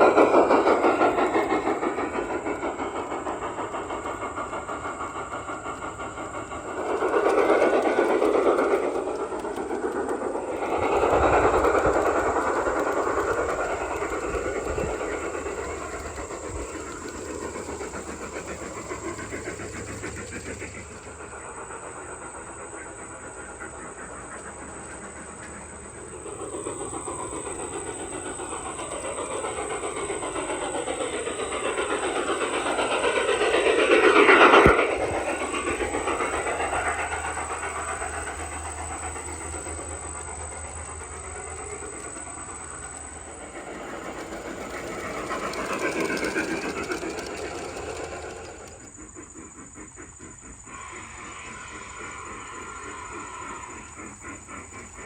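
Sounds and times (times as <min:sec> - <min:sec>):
model train rattling on track: 0:00.0 - 0:55.0.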